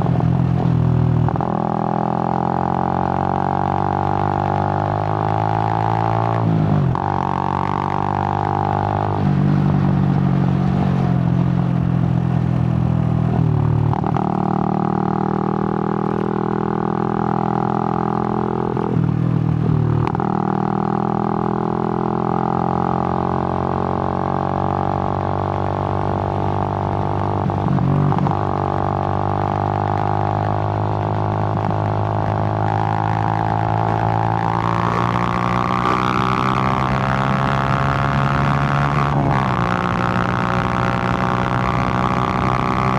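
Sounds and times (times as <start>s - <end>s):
motorcycle engine drone: 0.0s - 42.9s.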